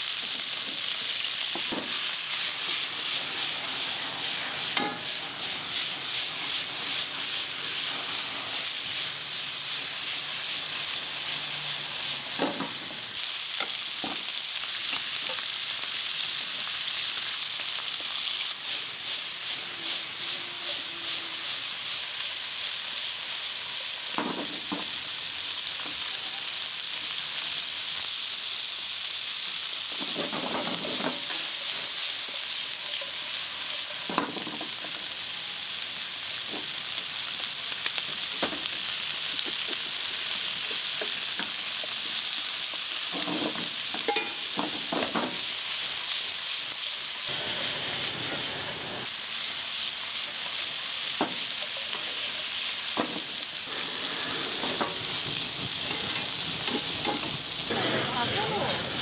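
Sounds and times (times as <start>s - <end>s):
meat sizzling in frying pans: 0.0s - 59.0s.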